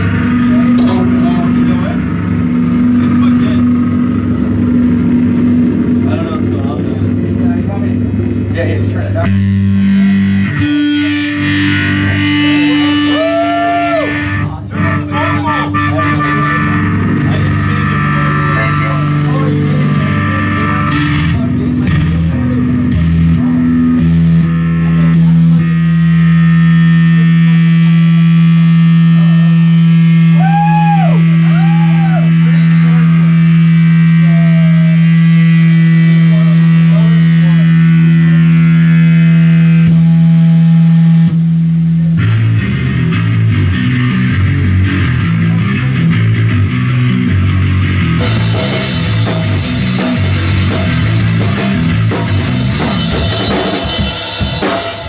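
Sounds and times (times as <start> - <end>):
band low drone note: 0.0 - 54.9
band playing rhythmic rock: 0.0 - 55.0.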